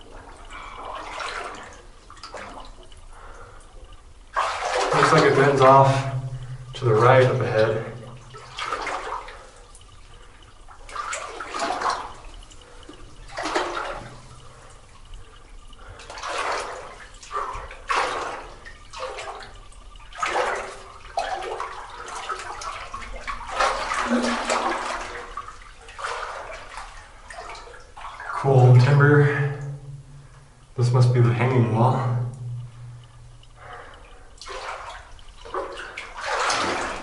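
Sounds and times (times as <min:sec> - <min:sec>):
wading through knee-deep water: 0:00.0 - 0:37.0.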